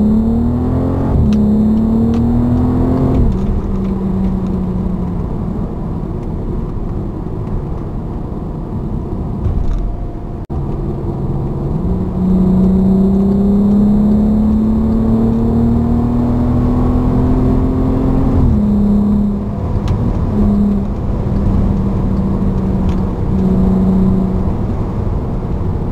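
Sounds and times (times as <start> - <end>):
car engine and exhaust: 0.0 - 25.9.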